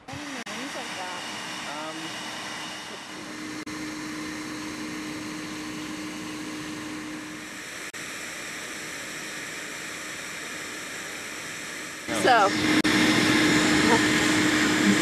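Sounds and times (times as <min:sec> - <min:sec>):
shop vac motor whooshing hum: 0:00.0 - 0:15.0.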